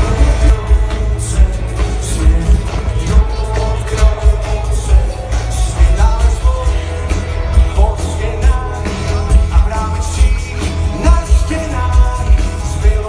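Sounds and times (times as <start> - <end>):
lead vocal singing: 0.0 - 13.0
pop-rock band playing loudly: 0.0 - 13.0.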